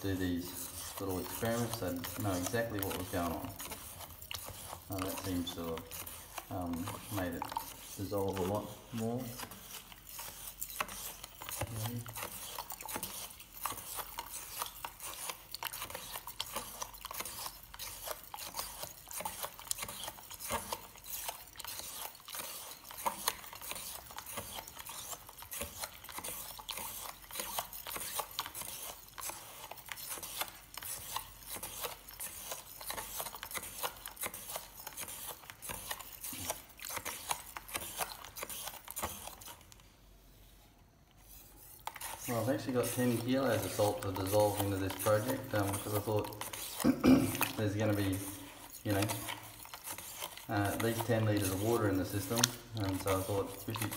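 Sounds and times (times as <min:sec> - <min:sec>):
knife scraping salt in plastic jug: 0:00.0 - 0:39.8, 0:41.2 - 0:53.9.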